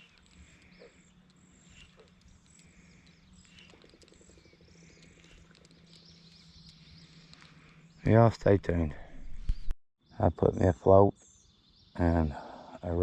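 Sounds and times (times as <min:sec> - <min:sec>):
steady low hum: 0:00.0 - 0:11.0
birds chirping: 0:00.0 - 0:13.0.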